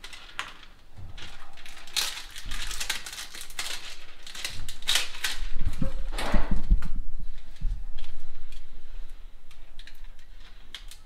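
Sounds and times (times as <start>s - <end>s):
material rustling and crinkling: 0.0s - 11.0s.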